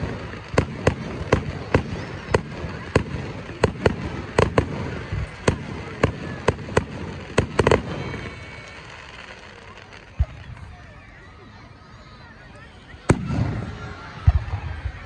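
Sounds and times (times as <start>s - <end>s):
fireworks bangs: 0.0s - 11.3s, 12.6s - 15.0s.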